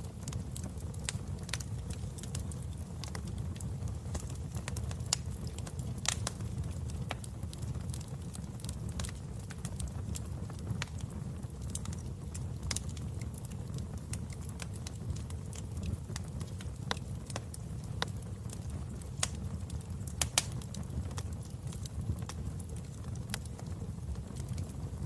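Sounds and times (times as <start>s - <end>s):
fire pops and snaps: 0.0s - 25.0s
low rumble of flames: 0.0s - 25.0s.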